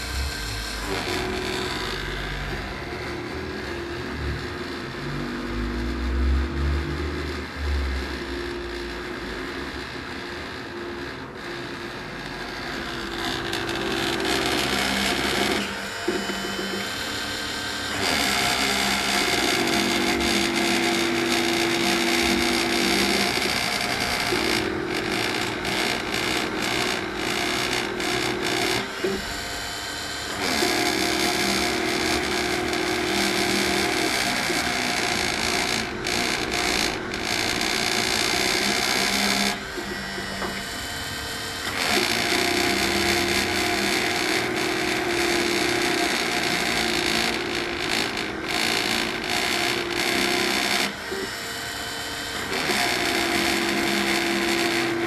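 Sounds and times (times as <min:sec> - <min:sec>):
high whir of spindle: 0:00.0 - 0:55.0
milling machine motor tones: 0:00.0 - 0:55.0.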